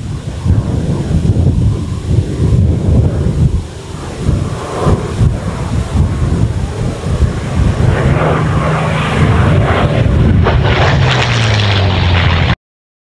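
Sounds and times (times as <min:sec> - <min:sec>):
propeller plane flyby: 0:00.0 - 0:12.6.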